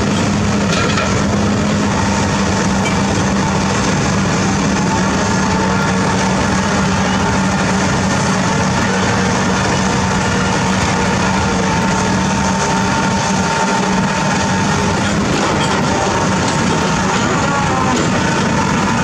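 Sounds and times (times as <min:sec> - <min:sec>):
diesel construction machinery running: 0:00.0 - 0:19.0.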